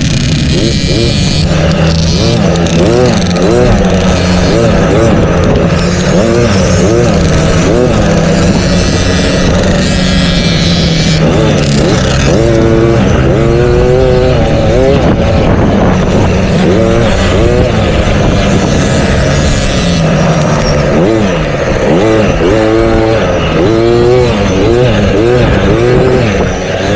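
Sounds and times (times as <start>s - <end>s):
motocross bike engines revving: 0.0s - 26.9s.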